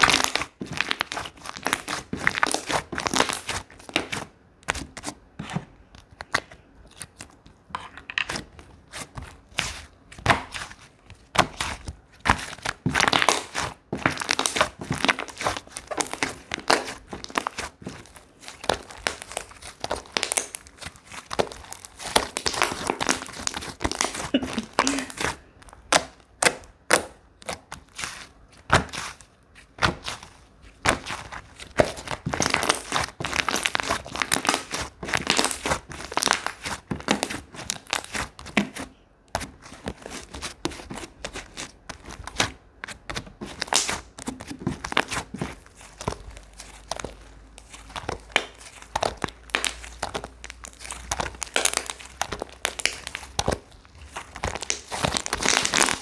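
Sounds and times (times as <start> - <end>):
slime crackling and popping: 0.0 - 5.2, 8.0 - 56.0.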